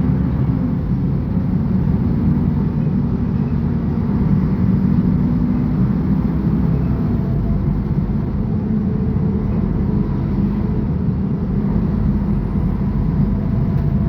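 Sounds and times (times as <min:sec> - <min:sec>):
bus diesel engine droning: 0:00.0 - 0:14.0.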